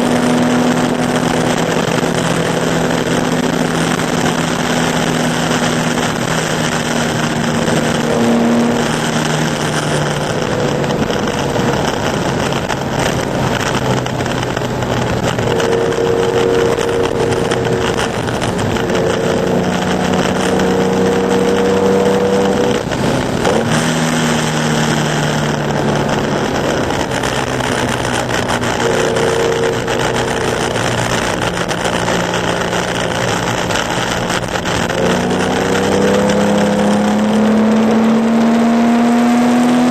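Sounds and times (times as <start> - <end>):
race car engine revving: 0.0 - 39.9
wind: 0.0 - 39.9.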